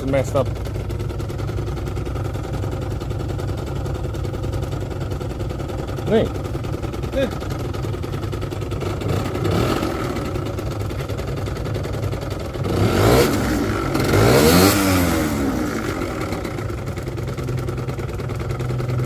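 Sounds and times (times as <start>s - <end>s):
scooter engine idling and revving: 0.0s - 19.0s.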